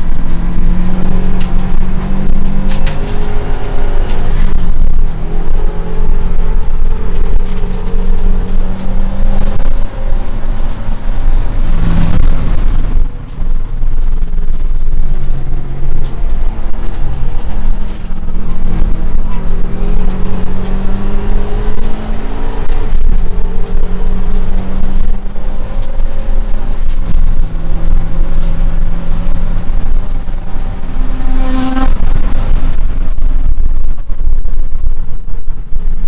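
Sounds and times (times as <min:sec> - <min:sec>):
race car engine accelerating: 0:00.0 - 0:34.2
deep road rumble: 0:00.0 - 0:36.0.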